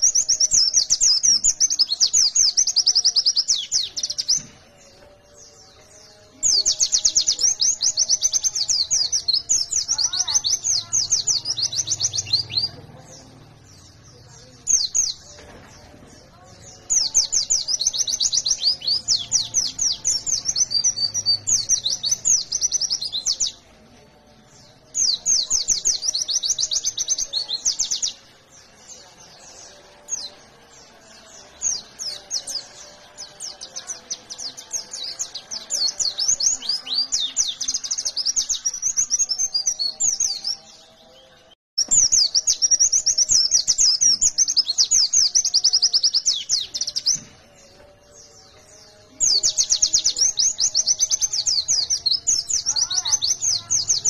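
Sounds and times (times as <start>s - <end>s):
bird singing high twitters: 0.0s - 54.0s.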